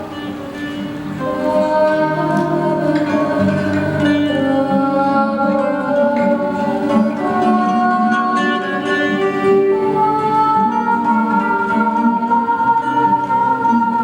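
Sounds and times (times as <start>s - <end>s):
plucked strings: 0.0s - 14.0s
slow melody of sustained tones: 0.0s - 14.0s.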